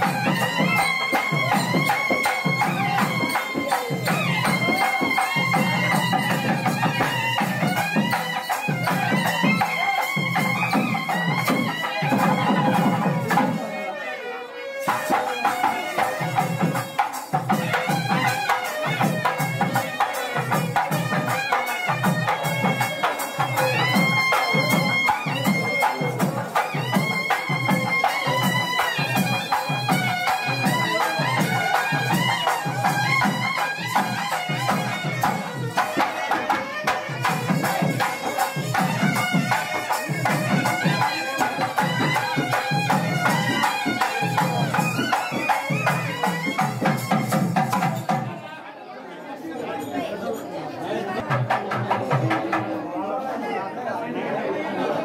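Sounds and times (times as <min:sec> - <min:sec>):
quick steady drumbeat: 0:00.0 - 0:13.7, 0:14.9 - 0:48.4, 0:51.2 - 0:52.8
reedy wind instrument melody: 0:00.0 - 0:48.1.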